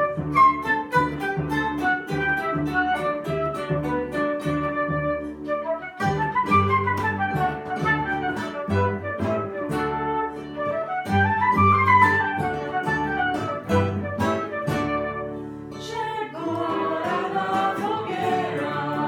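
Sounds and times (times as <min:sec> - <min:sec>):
fast melody in scales: 0:00.0 - 0:15.4
plucked chords: 0:00.0 - 0:19.0.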